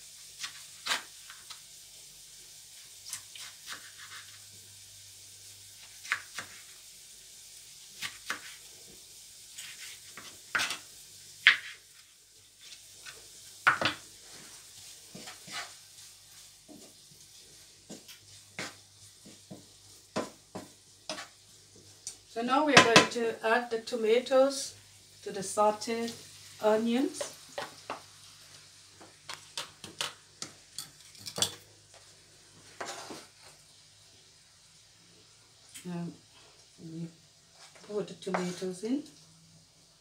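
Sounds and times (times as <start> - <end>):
onions sizzling in a pan: 0.0 - 40.0.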